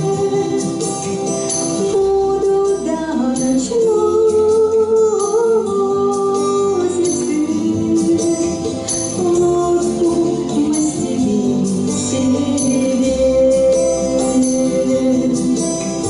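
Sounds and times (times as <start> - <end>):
instrumental backing: 0.0 - 16.0
person singing: 0.0 - 16.0.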